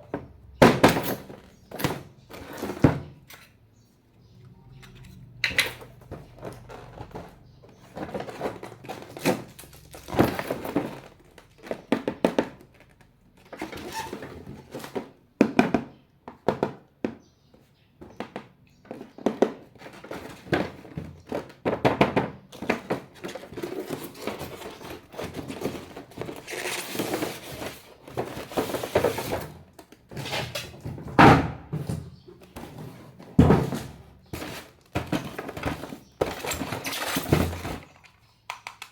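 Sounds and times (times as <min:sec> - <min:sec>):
hard objects thunking and clattering: 0:00.0 - 0:38.9.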